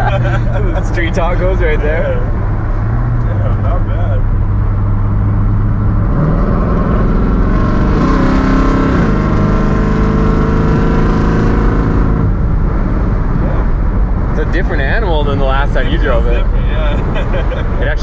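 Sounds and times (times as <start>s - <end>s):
pickup engine accelerating: 0.0s - 18.0s.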